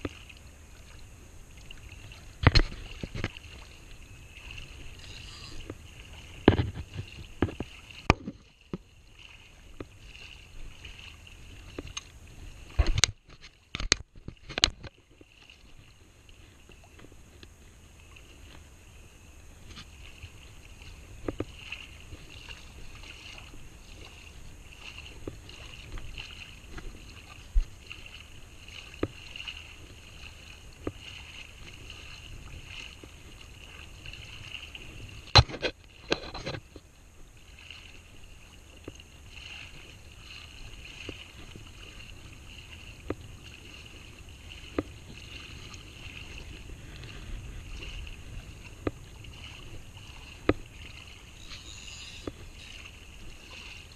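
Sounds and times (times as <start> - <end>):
water sloshing around legs: 0.0 - 53.9.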